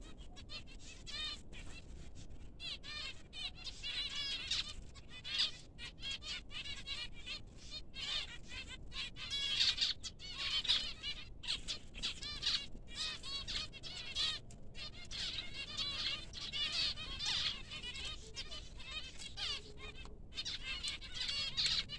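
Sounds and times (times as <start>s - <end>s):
finches chattering: 2.6s - 21.9s.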